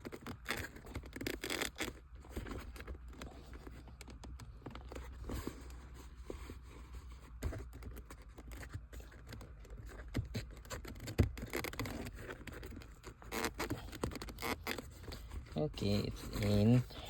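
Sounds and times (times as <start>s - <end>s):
shifter boot scraping and rustling: 0.0s - 17.0s.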